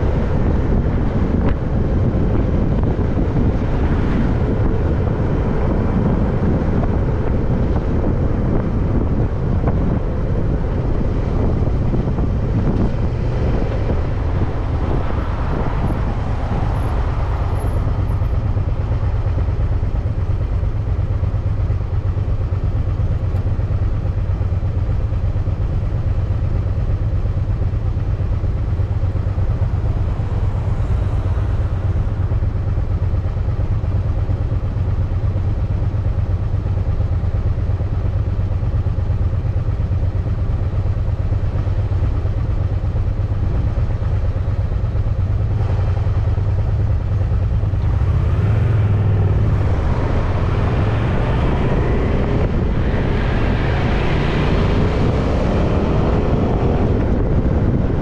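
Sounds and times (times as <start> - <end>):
motor vehicle engine: 0.0 - 58.0
road and wind noise: 0.0 - 58.0.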